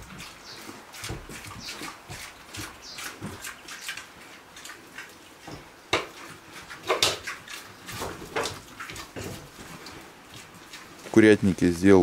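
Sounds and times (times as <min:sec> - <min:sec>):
pigs eating from metal bowl: 0:00.0 - 0:12.0.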